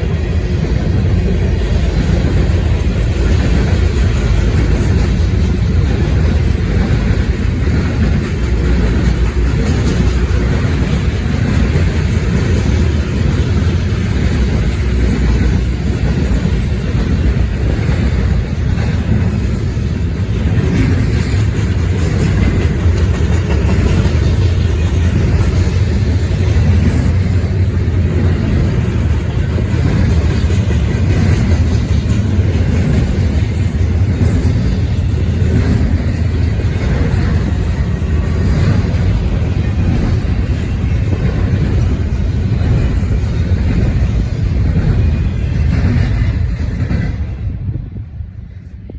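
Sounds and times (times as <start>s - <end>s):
freight train cars rumbling past: 0.0s - 48.9s
wind buffeting microphone: 0.0s - 48.9s.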